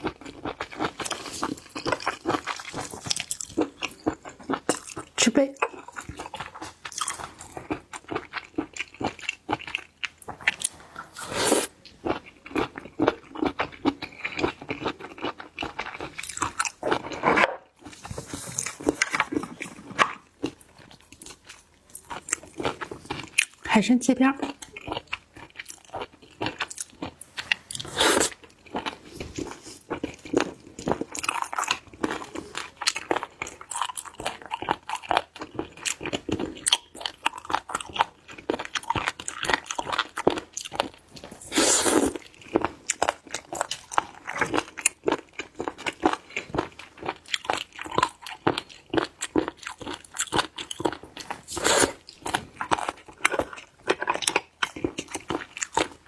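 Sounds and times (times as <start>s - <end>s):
mouth chewing and crunching: 0.0s - 23.7s, 24.3s - 56.0s.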